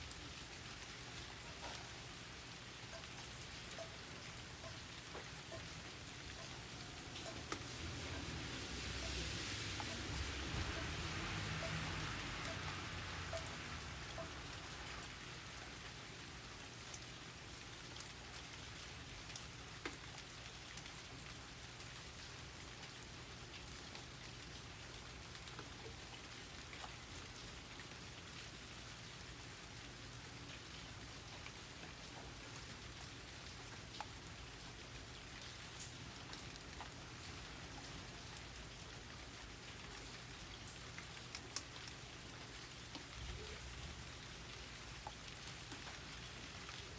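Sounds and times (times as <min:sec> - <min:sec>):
raindrops ticking on surfaces: 0:00.0 - 0:46.9
soft rain falling: 0:00.0 - 0:46.9.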